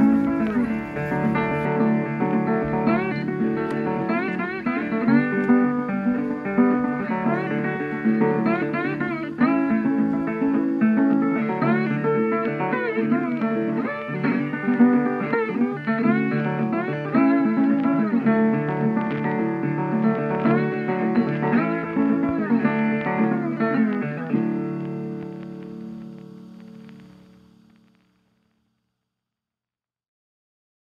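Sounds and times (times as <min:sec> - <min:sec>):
plucked guitar tune: 0:00.0 - 0:27.8.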